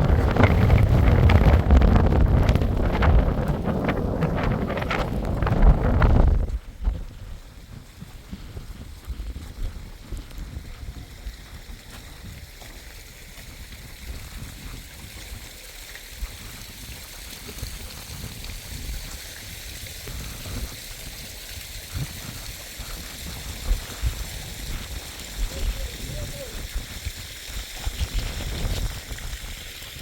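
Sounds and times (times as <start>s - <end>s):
wind buffeting microphone: 0.0s - 15.4s, 16.2s - 30.0s
running water rushing: 0.0s - 30.0s.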